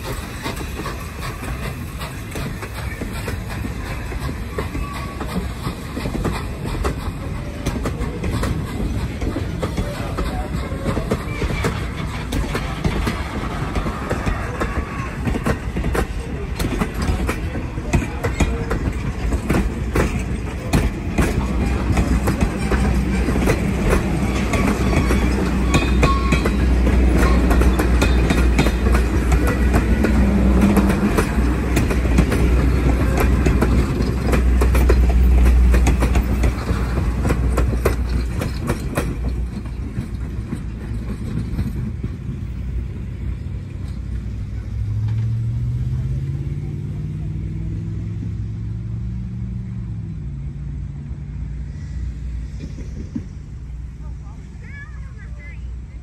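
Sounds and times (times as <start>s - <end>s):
train wheels clicking over rail joints: 0.0s - 46.6s, 51.1s - 53.9s
train rumble: 0.0s - 56.0s.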